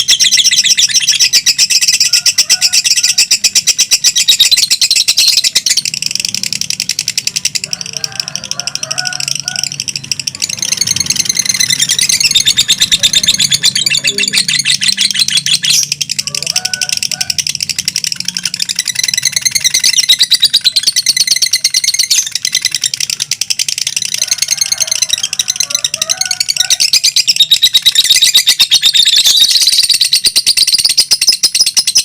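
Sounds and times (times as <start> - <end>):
lovebirds chattering trill: 0.0 - 32.0.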